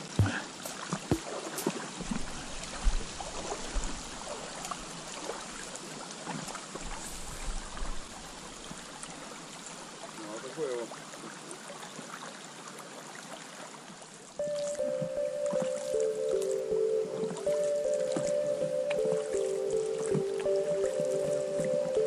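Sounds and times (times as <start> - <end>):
river water trickling over stones: 0.0 - 22.0.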